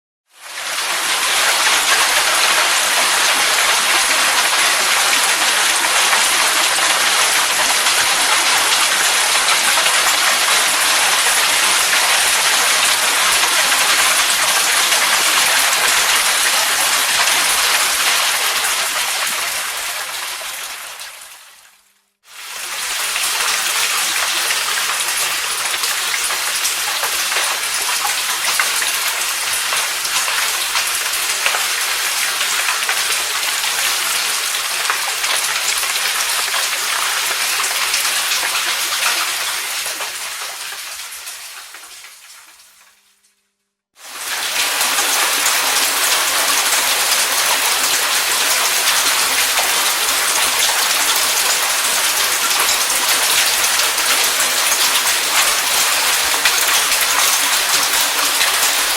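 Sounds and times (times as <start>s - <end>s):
rain pattering: 0.3s - 43.2s, 44.0s - 58.9s.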